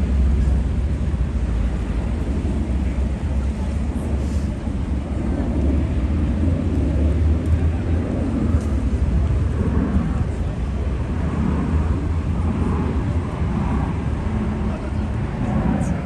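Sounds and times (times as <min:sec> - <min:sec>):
low rumble of traffic: 0:00.0 - 0:16.0.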